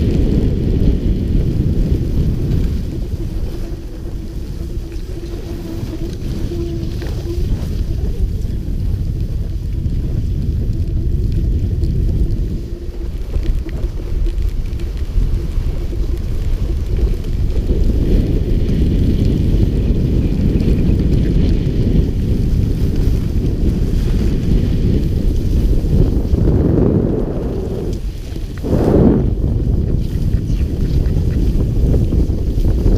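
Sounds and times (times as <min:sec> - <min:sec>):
skis sliding over snow: 0:00.0 - 0:32.9
wind buffeting microphone: 0:00.0 - 0:32.9.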